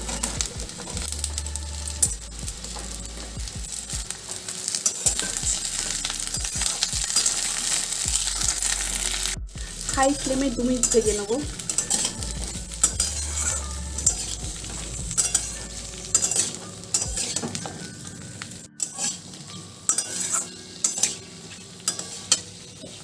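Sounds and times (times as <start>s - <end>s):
vegetables sizzling in hot oil: 0.0s - 23.0s
spatula scraping pan: 2.7s - 17.9s, 18.7s - 23.0s.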